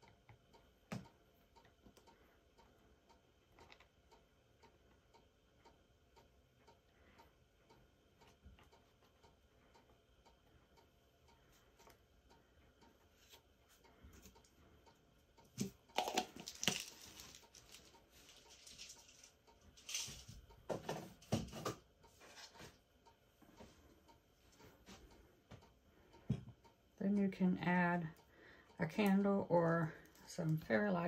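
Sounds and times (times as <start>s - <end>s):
clock ticking: 0.0s - 16.0s, 21.8s - 31.0s.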